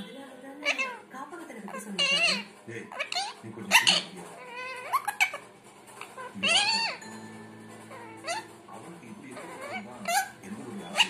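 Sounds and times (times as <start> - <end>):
parakeet calling: 0.0 - 11.0.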